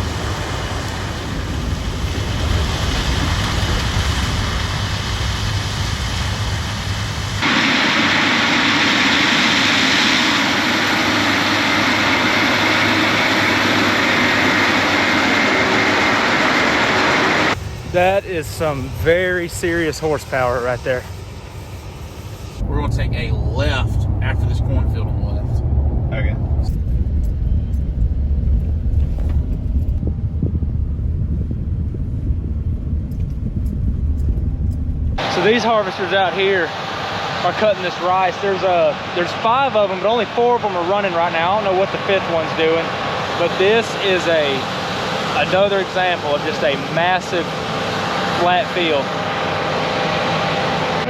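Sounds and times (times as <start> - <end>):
heavy vehicle engines running: 0.0 - 51.0.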